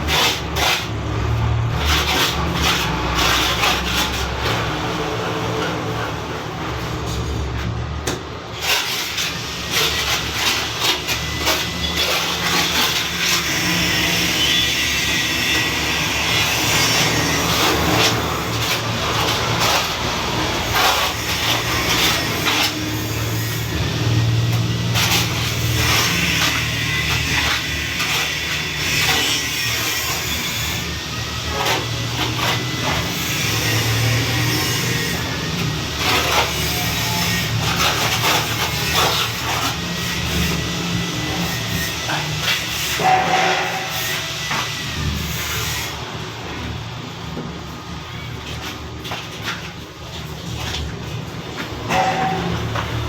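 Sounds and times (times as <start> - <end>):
hand tools scraping mortar and tile: 0.0 - 47.4, 48.1 - 53.0.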